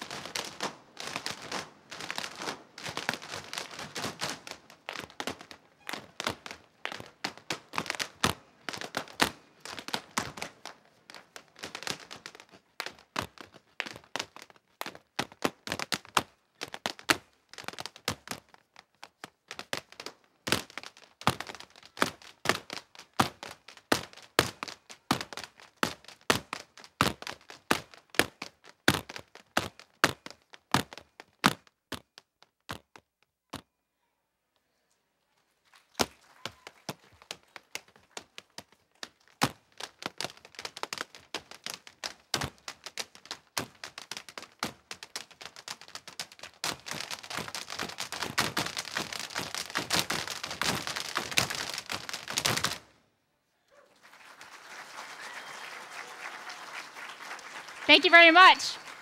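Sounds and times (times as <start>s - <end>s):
hard shoes tapping on stage: 0.0s - 33.6s, 36.0s - 52.9s.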